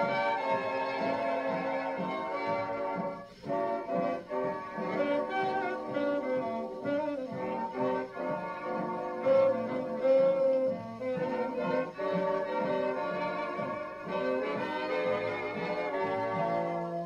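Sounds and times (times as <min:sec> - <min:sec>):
swing band playing: 0:00.0 - 0:17.0.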